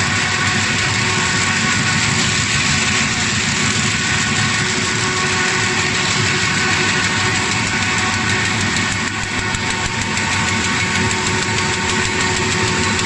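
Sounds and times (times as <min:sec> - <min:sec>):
paper bag machine humming: 0:00.0 - 0:13.0.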